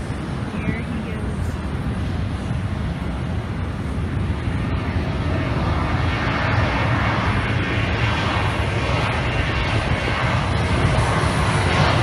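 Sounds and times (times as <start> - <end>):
distant jet engine roar: 0.0 - 12.0.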